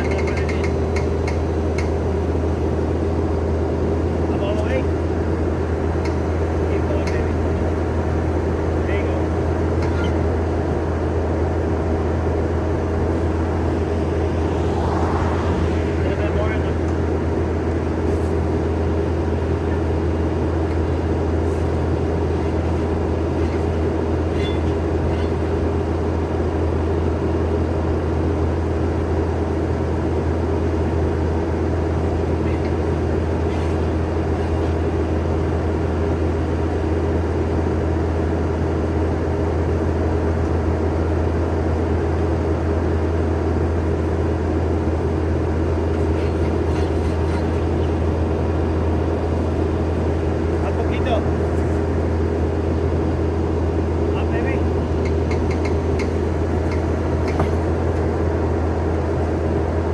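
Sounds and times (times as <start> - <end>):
skid steer engine running: 0.0 - 59.9.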